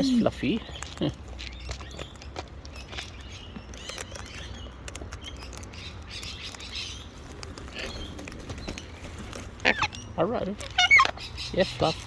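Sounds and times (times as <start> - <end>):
parrots chattering and chirping: 0.0 - 12.0.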